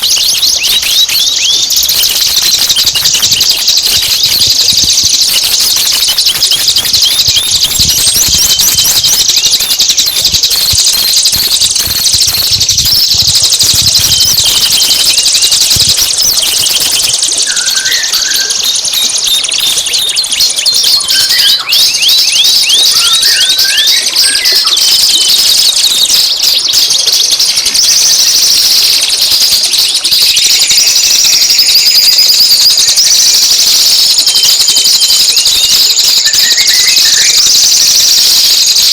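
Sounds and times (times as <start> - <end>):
lower bird chirps: 0.0 - 38.9
songbird chattering and trilling: 0.0 - 38.9.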